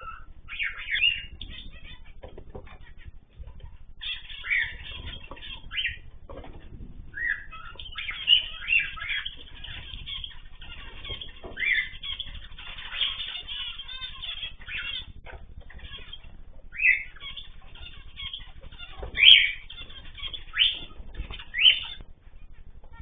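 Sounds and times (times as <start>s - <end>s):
cage birds chirping and calling: 0.0s - 23.0s.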